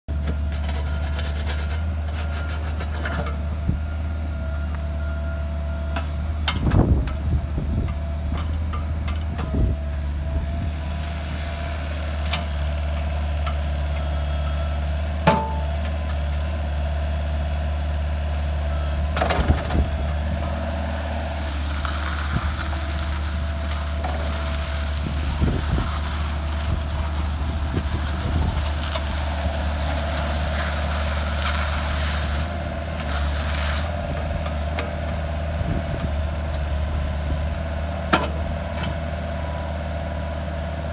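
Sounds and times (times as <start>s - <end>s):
diesel engine running: 0.1s - 40.9s.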